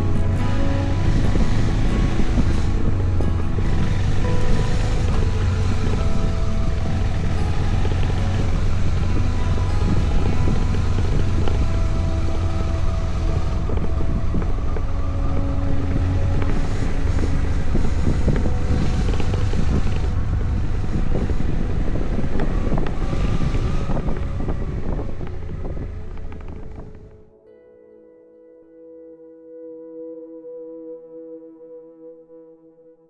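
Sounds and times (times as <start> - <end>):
motorcycle engine running: 0.0 - 27.2
wind rumble on microphone: 0.0 - 27.3.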